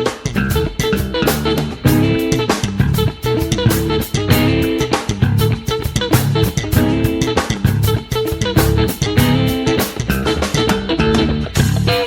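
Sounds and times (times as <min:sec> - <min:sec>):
upbeat instrumental band music: 0:00.0 - 0:12.0.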